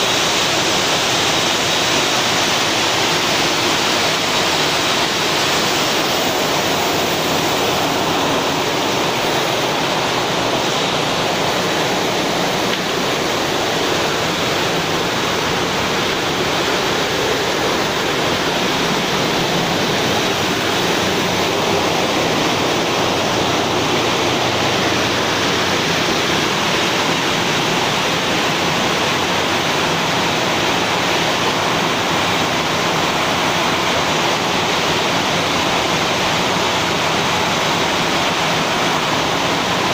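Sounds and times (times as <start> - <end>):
loud rushing hiss: 0.0 - 39.9.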